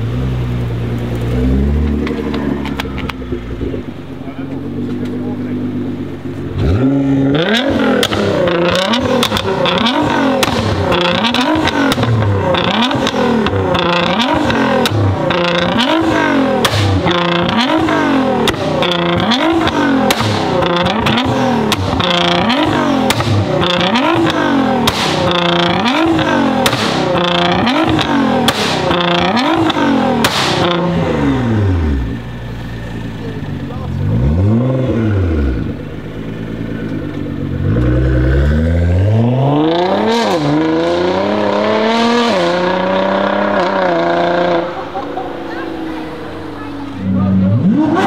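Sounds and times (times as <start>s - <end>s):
car engine revving: 0.0s - 48.0s
sharp exhaust cracks: 0.6s - 48.0s.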